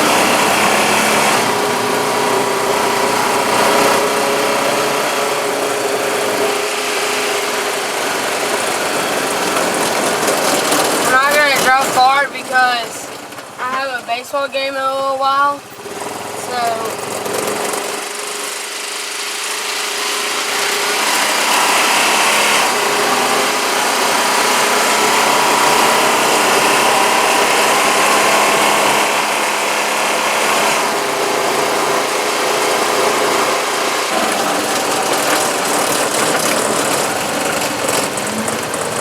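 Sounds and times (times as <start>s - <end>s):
tracked four-wheeler engine running: 0.0s - 39.0s.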